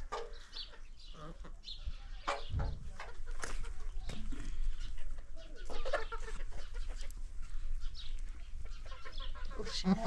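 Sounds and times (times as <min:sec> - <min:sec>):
hens clucking: 0:00.0 - 0:10.0.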